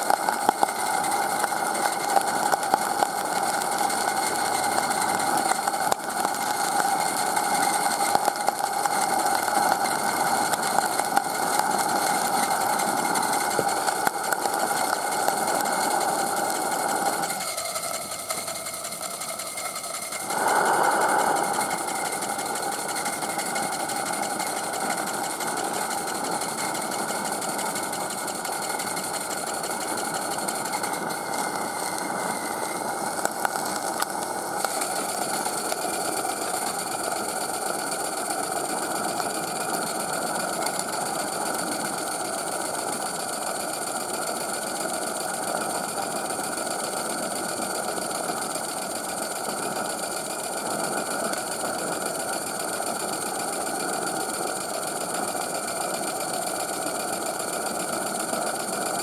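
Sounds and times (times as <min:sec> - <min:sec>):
gas burner roar: 0:00.0 - 0:59.0
steam engine mechanical clatter: 0:00.0 - 0:59.0.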